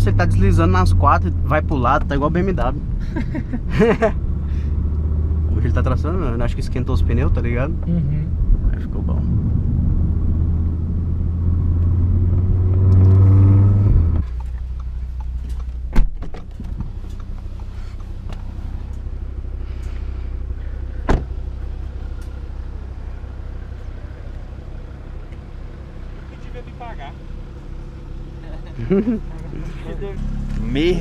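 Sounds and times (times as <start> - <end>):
car engine at full throttle: 0.0 - 31.0
road rumble: 0.0 - 31.0.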